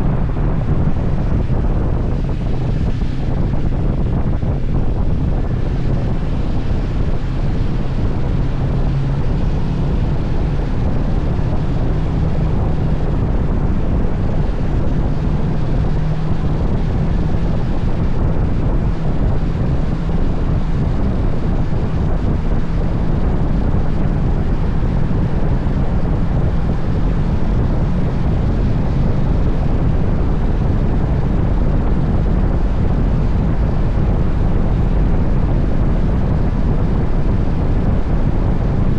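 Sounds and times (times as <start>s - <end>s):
motorcycle engine cruising: 0.0s - 34.6s
wind buffeting microphone: 0.0s - 38.9s.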